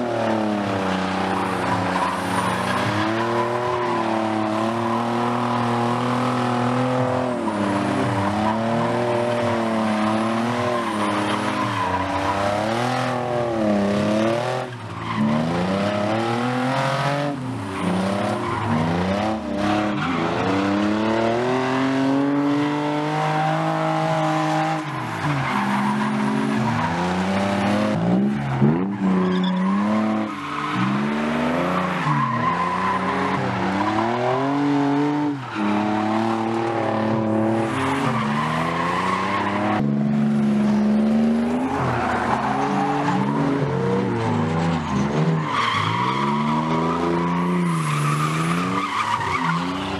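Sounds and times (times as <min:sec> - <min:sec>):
car engine revving: 0:00.0 - 0:49.9
tyres squealing on asphalt: 0:00.0 - 0:49.9.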